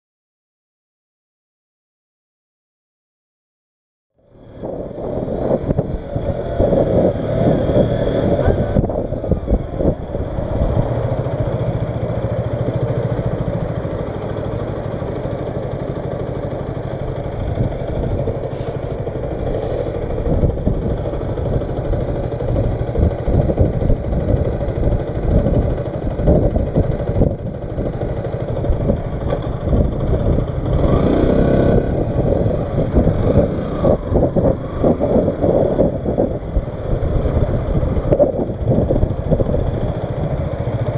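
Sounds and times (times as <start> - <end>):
motorcycle engine running: 4.2 - 40.9
wind buffeting microphone: 4.3 - 14.2, 16.9 - 40.9.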